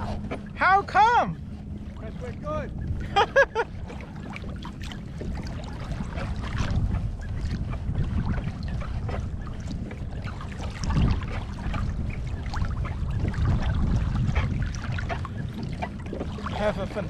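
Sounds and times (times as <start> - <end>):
steady low rumble: 0.0 - 17.0
water lapping and splashing: 0.0 - 17.0.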